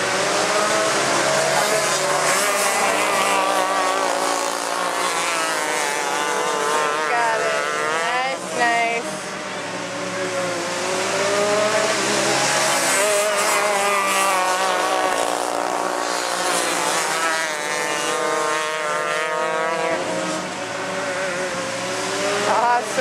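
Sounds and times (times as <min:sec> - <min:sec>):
kart engines racing at high revs: 0:00.0 - 0:23.0.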